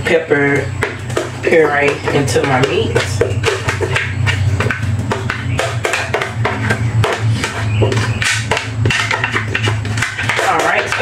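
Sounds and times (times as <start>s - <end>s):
background music with bass: 0.0s - 11.0s
spatula scraping plastic jar: 0.0s - 11.0s.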